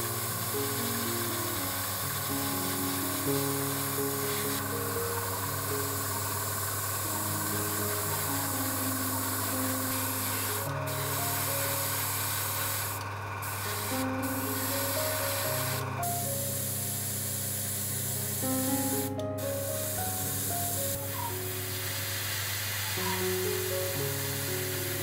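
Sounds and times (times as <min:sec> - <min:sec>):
airbrush spraying hiss: 0:00.0 - 0:25.0.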